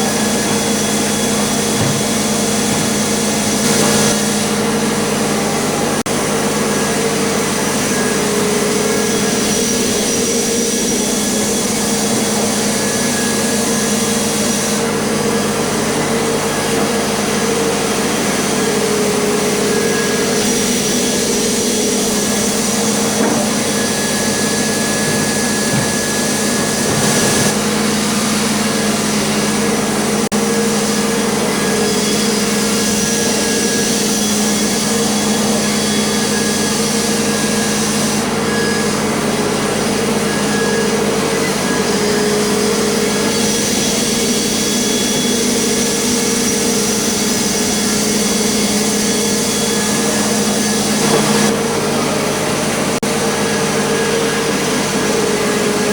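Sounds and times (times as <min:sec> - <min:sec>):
sawmill machine drone: 0:00.0 - 0:55.9.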